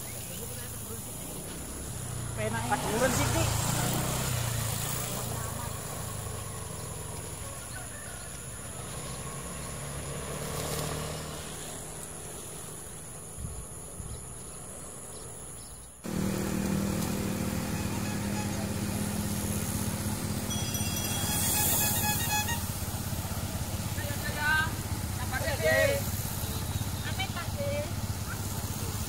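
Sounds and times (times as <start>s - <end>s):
motorcycle engine running: 0.0s - 13.3s, 16.0s - 29.0s.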